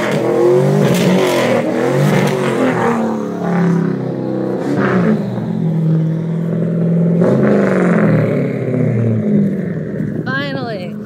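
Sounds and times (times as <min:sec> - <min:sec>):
pickup truck engine revving: 0:00.0 - 0:10.2.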